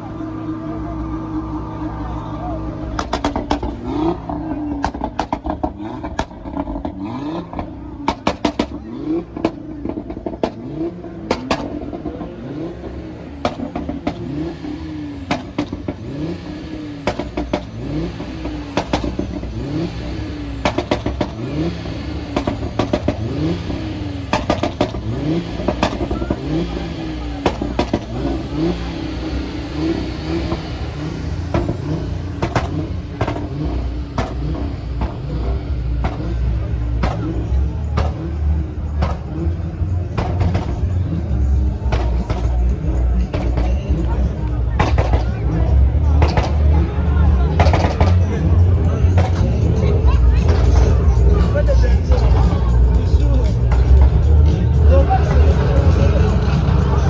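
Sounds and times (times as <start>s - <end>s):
car engine revving: 0.0s - 57.0s
sharp exhaust cracks: 2.7s - 57.0s.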